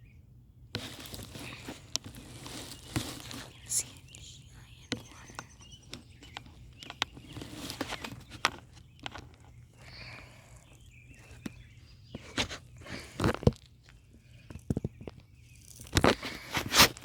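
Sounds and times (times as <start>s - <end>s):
footsteps rustling over ground: 0.7s - 17.0s.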